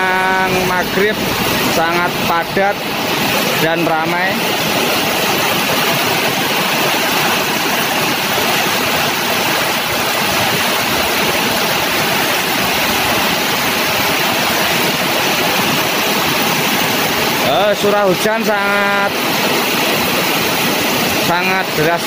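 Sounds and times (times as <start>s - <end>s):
heavy rain pouring: 0.0s - 22.0s
vehicles driving through floodwater: 0.0s - 22.0s.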